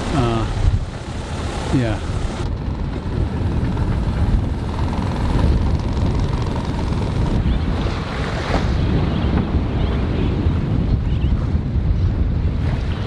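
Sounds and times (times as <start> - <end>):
rough sea around hull: 0.0 - 13.0
storm wind buffeting microphone: 0.0 - 13.0.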